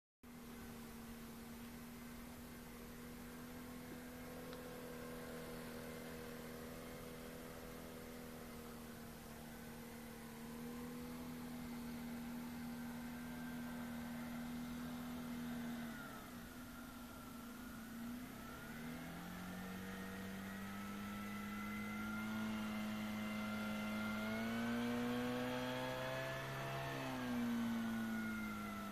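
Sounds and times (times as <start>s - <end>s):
outboard motor idling: 0.3s - 28.9s.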